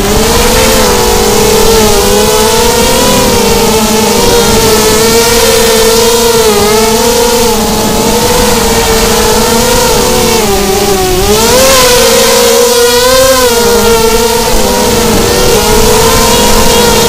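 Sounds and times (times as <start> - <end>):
drone motors whining: 0.0 - 17.0
wind rushing over microphone: 0.0 - 17.0.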